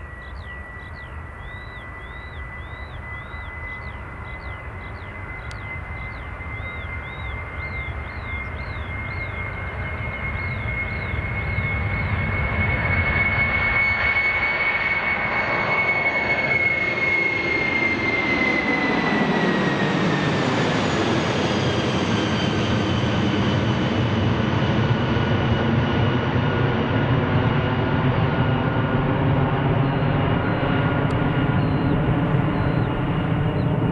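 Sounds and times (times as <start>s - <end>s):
high jet whine: 0.0s - 33.9s
jet engines roaring: 0.0s - 33.9s.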